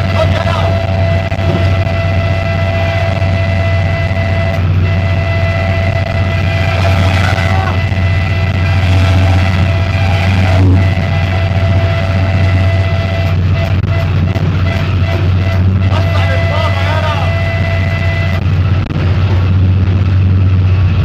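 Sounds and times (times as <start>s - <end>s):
deep locomotive engine drone: 0.0s - 21.0s
steady whine: 0.0s - 21.0s
wheels rumbling on track: 0.0s - 21.0s.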